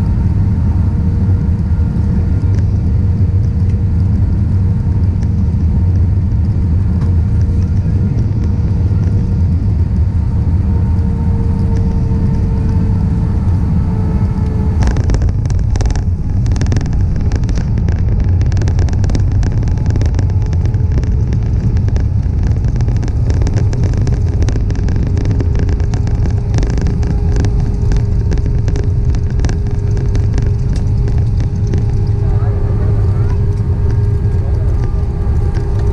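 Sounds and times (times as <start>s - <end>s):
aircraft engines and airflow rumble: 0.0s - 35.9s.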